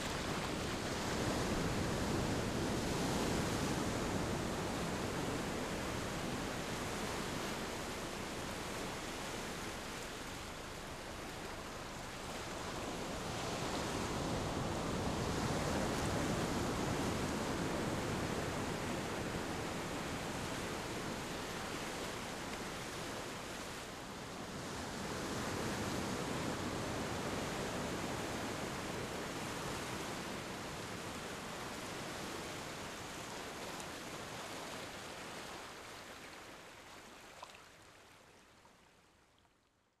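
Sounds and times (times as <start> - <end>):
ocean surf breaking on beach: 0.0 - 36.0.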